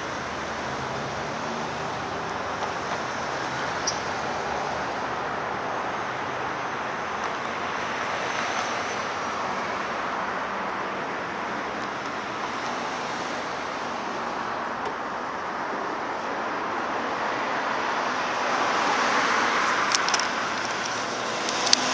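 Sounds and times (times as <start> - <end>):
distant vehicle noise: 0.0 - 21.9.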